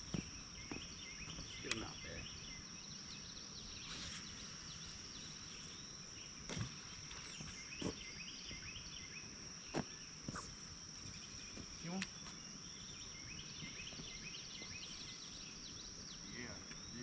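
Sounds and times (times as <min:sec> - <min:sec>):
insect trill: 0:00.0 - 0:17.0
small birds chirping: 0:00.0 - 0:17.0.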